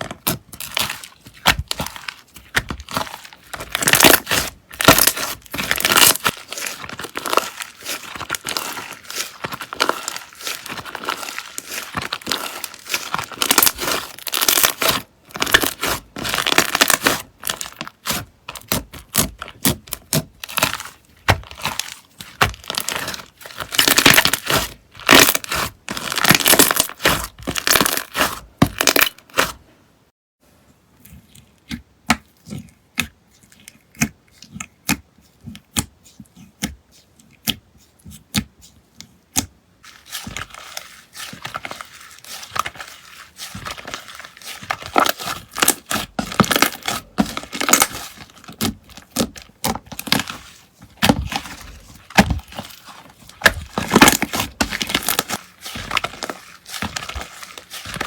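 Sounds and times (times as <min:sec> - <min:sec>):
slime crackling and popping: 0:00.1 - 0:29.5, 0:39.9 - 0:58.0.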